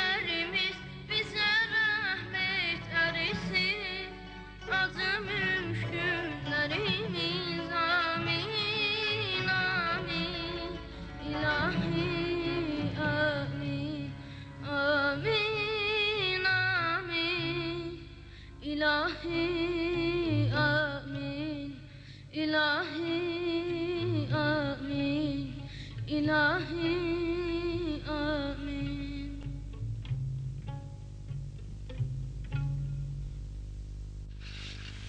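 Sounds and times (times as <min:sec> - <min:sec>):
instrumental accompaniment: 0:00.0 - 0:21.5, 0:24.2 - 0:35.0.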